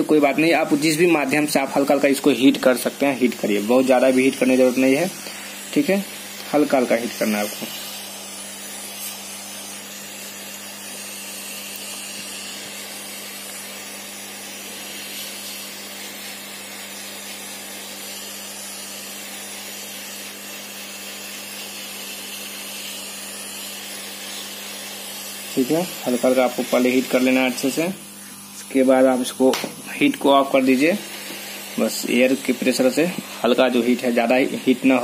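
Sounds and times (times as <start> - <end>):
hot air gun blowing: 0.0 - 35.0.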